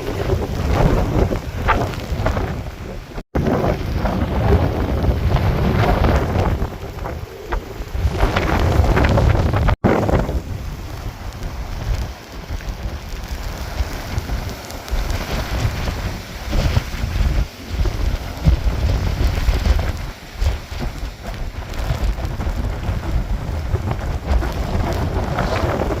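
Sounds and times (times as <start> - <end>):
rain hiss: 0.0 - 26.0
storm wind buffeting microphone: 0.0 - 26.0.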